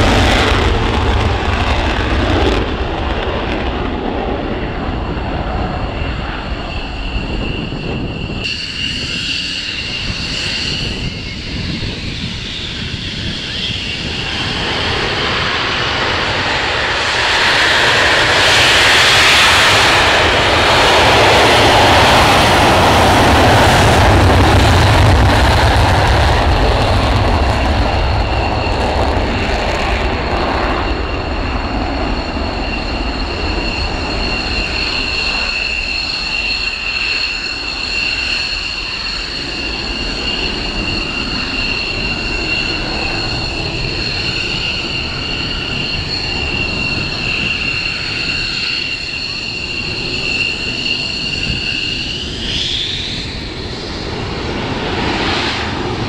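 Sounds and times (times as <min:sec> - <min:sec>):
jets taxiing whine: 0:00.0 - 0:56.0
loud jet roar with deep rumble: 0:00.0 - 0:56.0.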